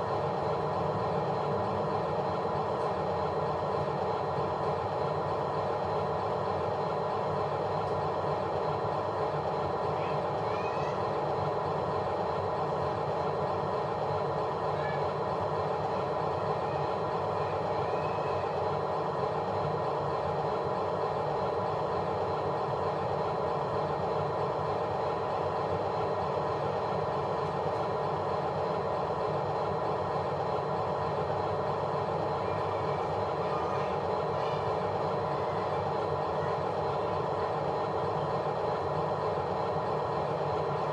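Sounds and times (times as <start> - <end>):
machine running steadily: 0.0 - 40.9.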